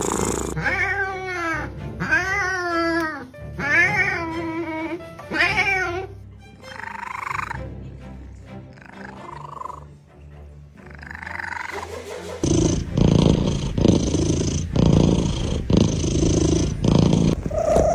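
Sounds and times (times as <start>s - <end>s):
cat purring loudly: 0.0s - 6.0s, 6.7s - 7.6s, 8.8s - 10.0s, 10.8s - 17.9s
soft music: 0.0s - 17.9s.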